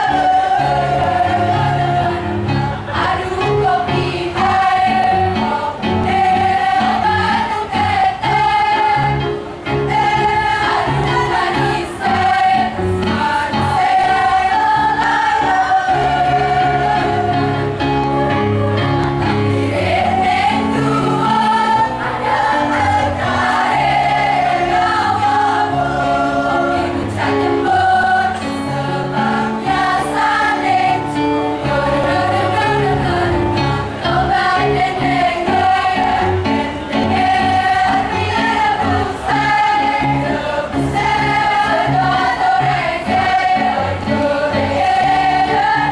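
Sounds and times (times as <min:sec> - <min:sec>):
bass accompaniment: 0:00.0 - 0:45.9
choir singing: 0:00.0 - 0:45.9.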